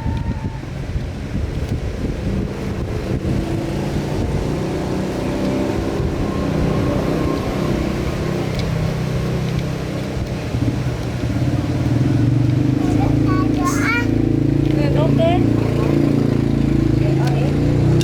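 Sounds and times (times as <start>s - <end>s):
vehicle engine running: 0.7s - 18.0s.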